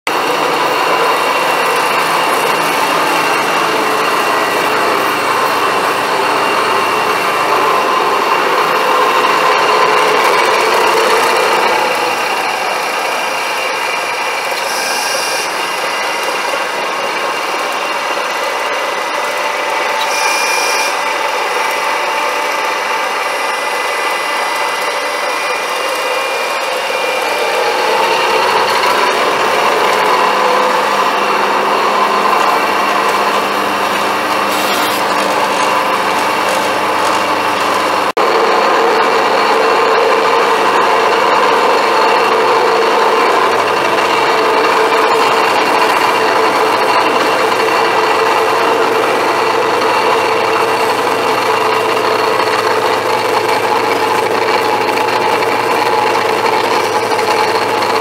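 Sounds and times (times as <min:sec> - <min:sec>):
bandsaw whirring: 0:00.1 - 0:58.0.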